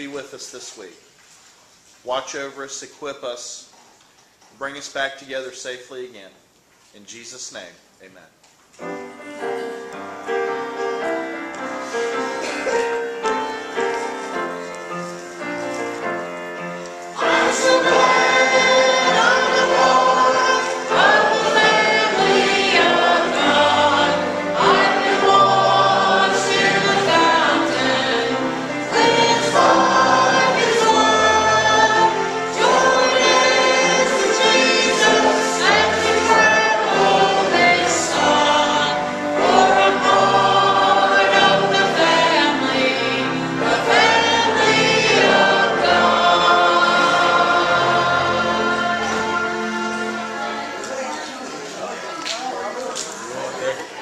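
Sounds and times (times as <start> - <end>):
congregation singing a hymn: 8.9 - 52.2.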